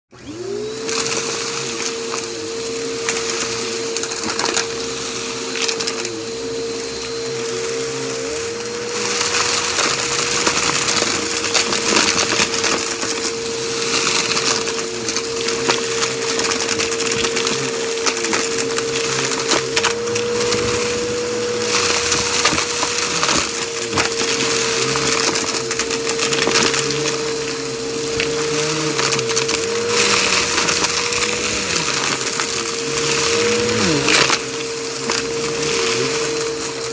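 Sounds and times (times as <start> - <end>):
vacuum cleaner motor whine: 0.1 - 36.9
debris crackling through nozzle: 0.2 - 36.9.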